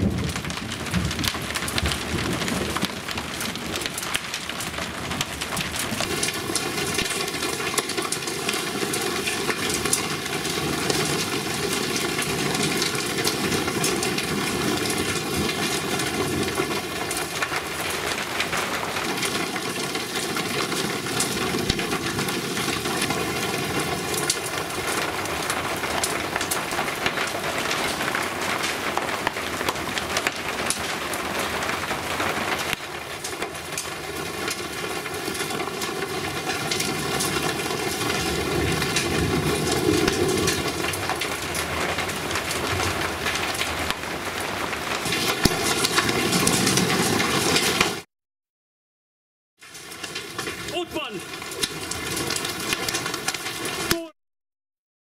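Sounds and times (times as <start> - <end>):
hailstones striking paving: 0.0 - 48.1, 49.6 - 54.1
heavy rain pouring: 0.0 - 48.1, 49.6 - 54.2.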